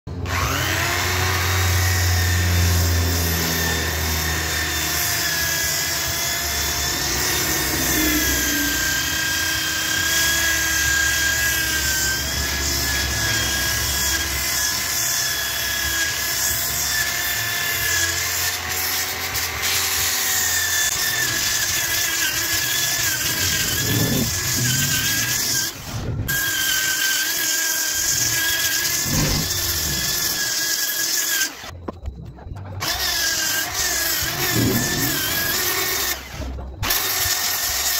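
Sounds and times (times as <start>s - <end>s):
lathe motor whining: 0.1s - 37.9s.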